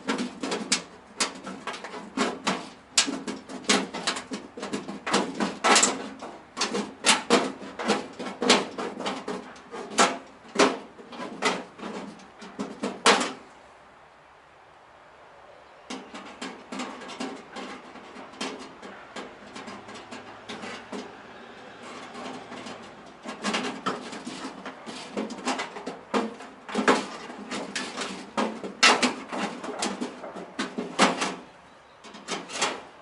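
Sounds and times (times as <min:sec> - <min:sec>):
sharp knocking and clattering: 0:00.0 - 0:13.4, 0:15.9 - 0:33.0.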